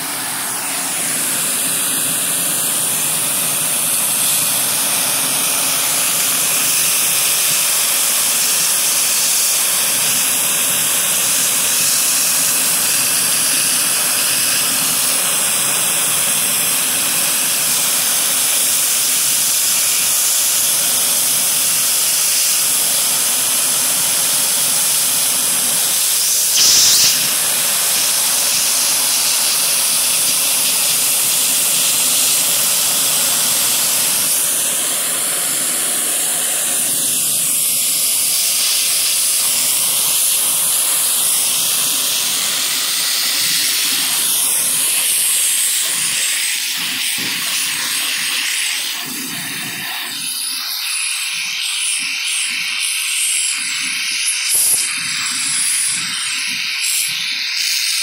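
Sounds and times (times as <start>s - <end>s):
vacuum cleaner sucking: 0.0s - 58.0s.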